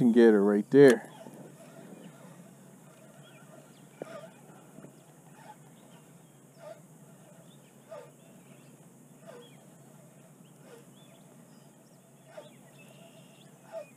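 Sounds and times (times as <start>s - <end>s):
small birds chirping: 0.0s - 13.9s
animal giving downward-sliding calls: 1.0s - 13.9s.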